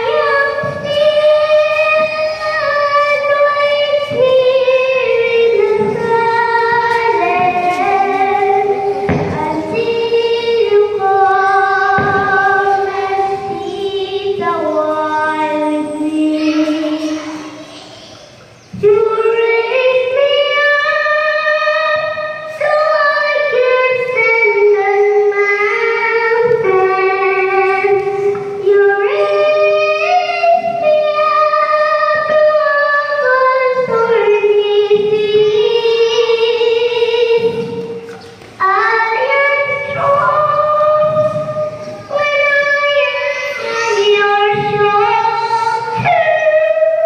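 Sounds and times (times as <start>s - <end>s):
children singing over loudspeakers: 0.0s - 47.0s.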